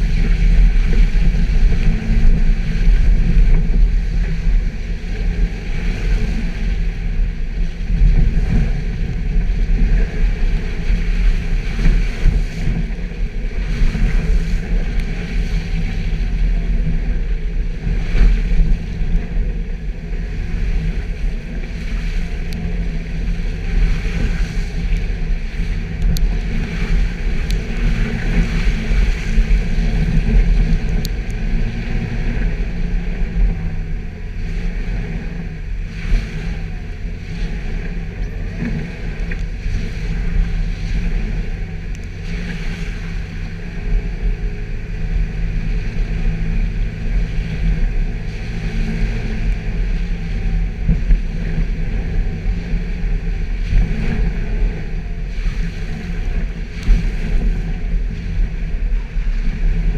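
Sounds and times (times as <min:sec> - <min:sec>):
car engine running: 0:00.0 - 0:59.9
low drivetrain rumble: 0:00.0 - 0:59.9.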